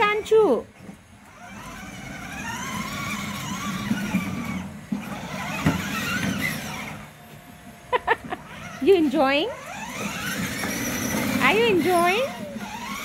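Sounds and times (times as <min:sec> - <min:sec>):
toy car electric motor whining: 0:00.0 - 0:13.0.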